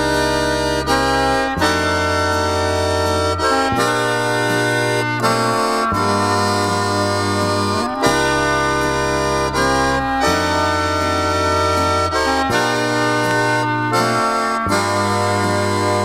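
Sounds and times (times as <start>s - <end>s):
accordion waltz with bass: 0.0s - 16.0s.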